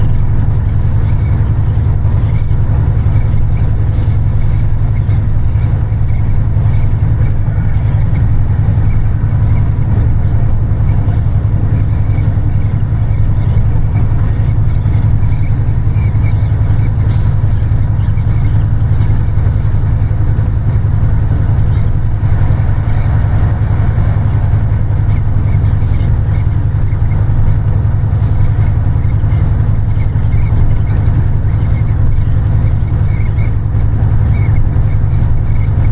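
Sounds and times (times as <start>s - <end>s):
train rumbling on rails: 0.0s - 35.9s.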